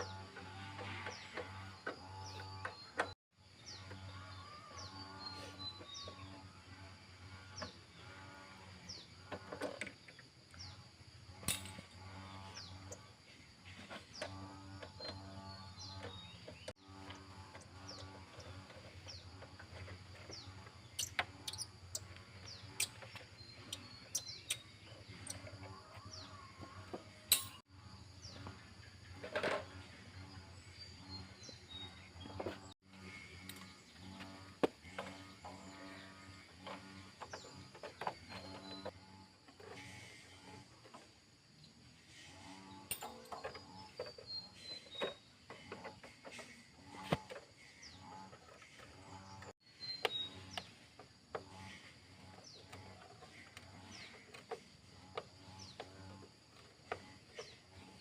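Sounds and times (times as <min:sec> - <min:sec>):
small birds chirping: 0:00.0 - 0:40.6, 0:41.6 - 0:58.0.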